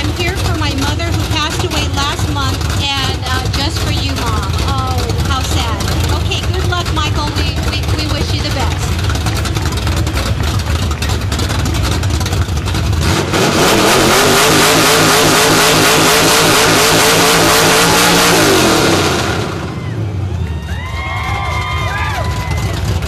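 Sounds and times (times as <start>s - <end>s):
car engine revving: 0.0s - 20.6s.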